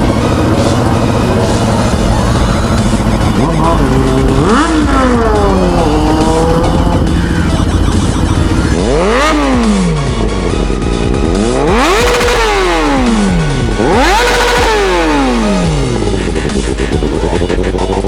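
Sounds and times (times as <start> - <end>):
background music: 0.0 - 18.0
motorcycle engine revving: 0.0 - 18.0.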